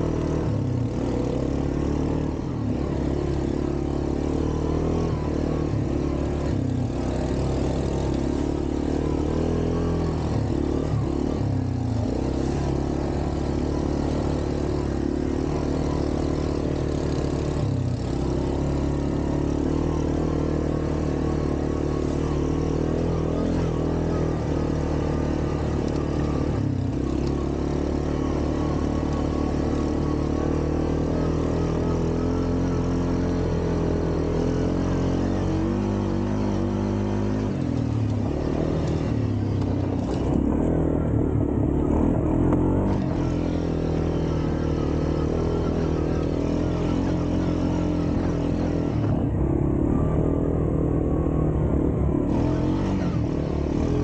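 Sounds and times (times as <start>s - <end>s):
quad bike engine running: 0.0s - 54.0s.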